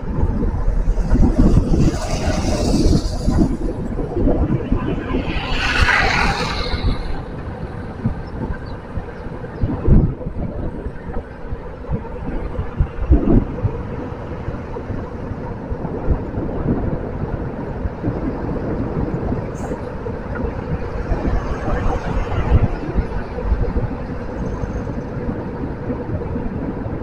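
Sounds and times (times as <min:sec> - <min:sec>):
bicycle rolling on road: 0:00.0 - 0:27.0
wind on microphone: 0:00.0 - 0:27.0.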